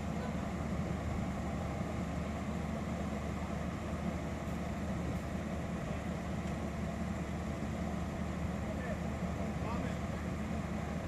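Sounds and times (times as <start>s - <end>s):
diesel railcar idling: 0.0s - 11.0s.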